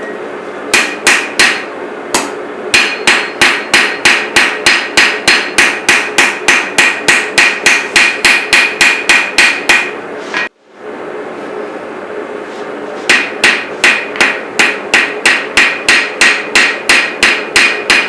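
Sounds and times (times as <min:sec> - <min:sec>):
hammer ringing on anvil: 0:00.8 - 0:10.5, 0:13.1 - 0:18.0.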